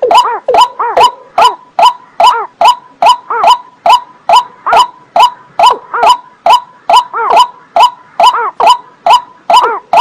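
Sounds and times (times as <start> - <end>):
bird calling with hollow notes: 0.0 - 10.0.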